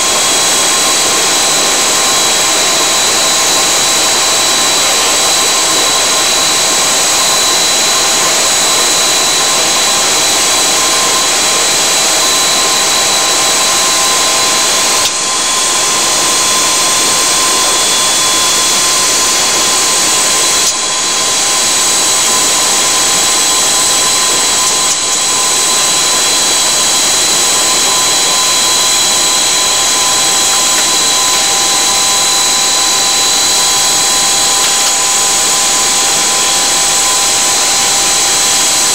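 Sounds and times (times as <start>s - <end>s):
aircraft engines whining: 0.0s - 38.9s.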